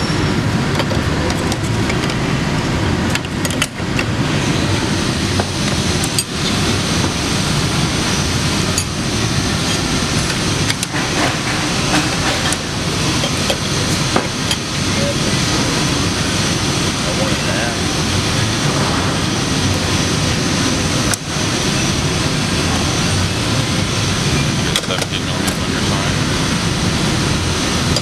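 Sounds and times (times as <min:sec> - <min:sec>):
industrial shop noise: 0:00.0 - 0:28.0.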